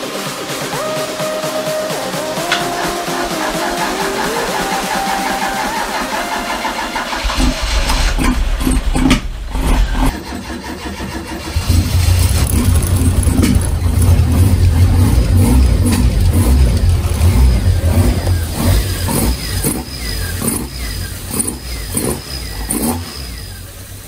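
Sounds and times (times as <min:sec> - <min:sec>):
car engine cranking and starting: 0:02.4 - 0:24.0.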